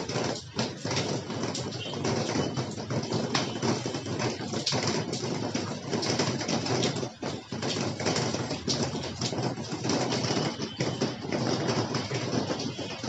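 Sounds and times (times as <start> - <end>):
rain tapping on microphone: 0.0 - 13.0.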